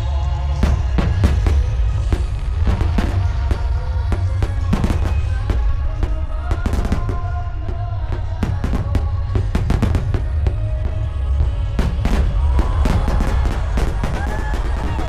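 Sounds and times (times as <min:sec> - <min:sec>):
fireworks bursting and crackling: 0:00.0 - 0:15.0
heavy low rumble: 0:00.0 - 0:15.0
music over loudspeakers: 0:00.0 - 0:15.0.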